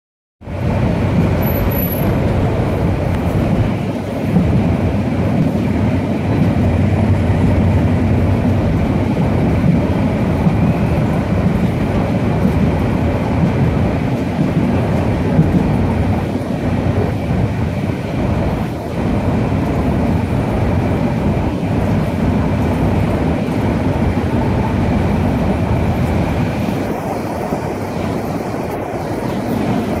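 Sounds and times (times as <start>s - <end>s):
train wheels rumbling on track: 0.4s - 30.0s.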